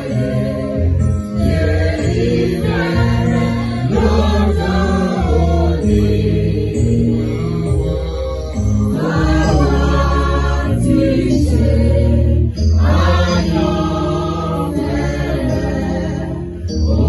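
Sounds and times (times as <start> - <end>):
choir singing a hymn: 0.0 - 17.0
instrumental backing: 0.0 - 17.0.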